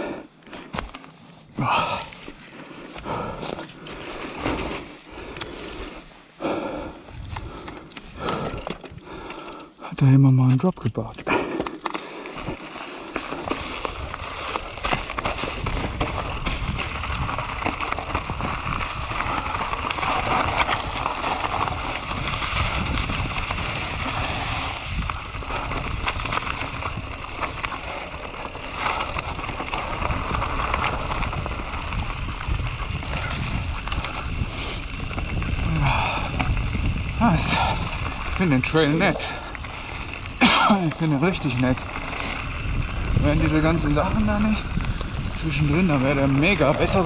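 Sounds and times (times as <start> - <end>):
tyres rolling over leaves and stones: 0.4 - 6.4, 10.4 - 47.0
bike clicking and rattling: 0.4 - 47.0.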